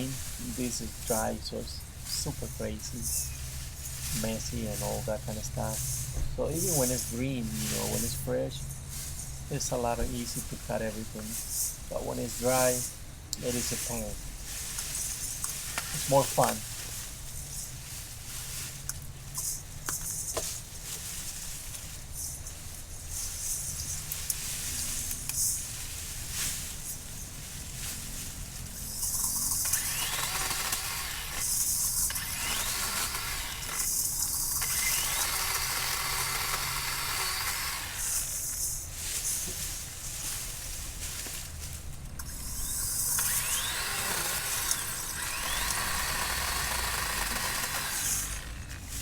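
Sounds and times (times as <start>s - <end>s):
chainsaw cutting dry branches: 0.0s - 49.0s.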